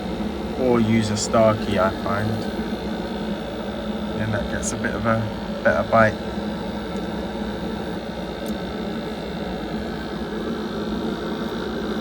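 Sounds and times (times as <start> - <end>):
boiler fan and burner humming: 0.0 - 12.0.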